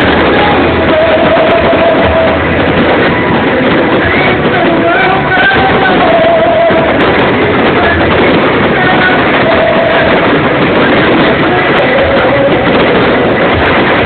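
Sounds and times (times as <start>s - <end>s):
loud distorted live concert music: 0.0s - 14.0s.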